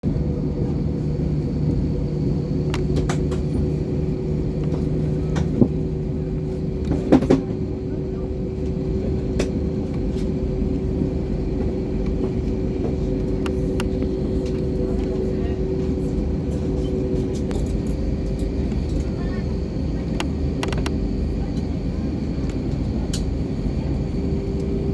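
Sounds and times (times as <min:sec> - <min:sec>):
airplane cabin engine rumble: 0:00.0 - 0:24.9
low hum: 0:00.0 - 0:24.9.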